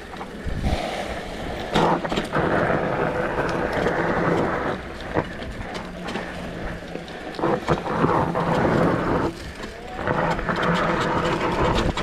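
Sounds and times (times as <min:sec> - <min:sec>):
bike tyres rolling over dirt: 0:00.0 - 0:12.0.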